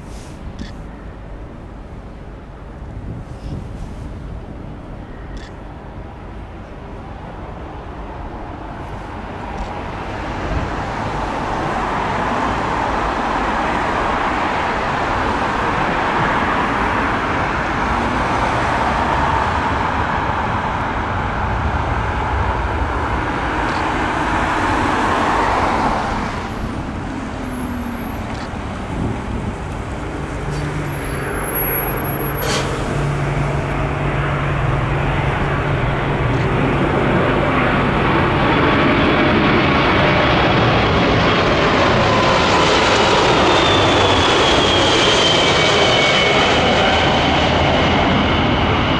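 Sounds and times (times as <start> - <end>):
jet airliner approaching: 0.0 - 48.9
road traffic: 0.0 - 48.9.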